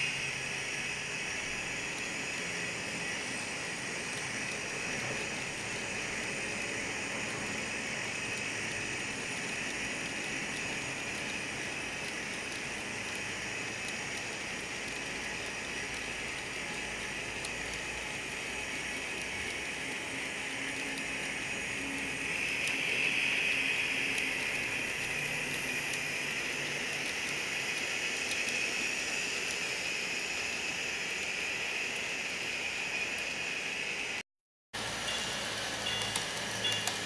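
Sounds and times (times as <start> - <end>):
model train wheels rolling on rail: 0.0 - 34.2, 34.8 - 37.0.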